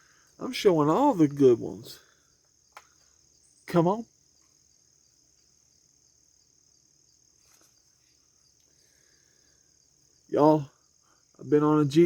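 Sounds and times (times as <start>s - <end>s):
faint cricket chirring: 0.0s - 12.0s.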